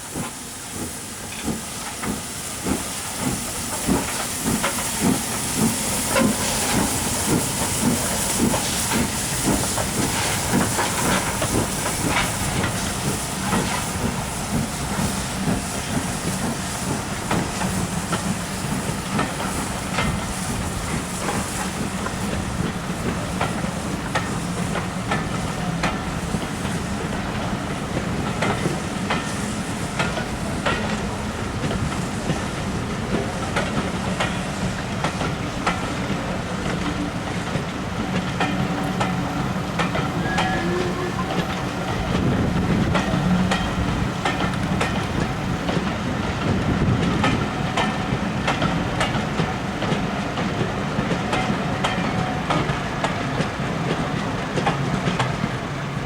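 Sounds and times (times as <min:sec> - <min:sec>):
steam hissing: 0:00.0 - 0:56.0
steam locomotive exhaust beats: 0:00.0 - 0:56.0.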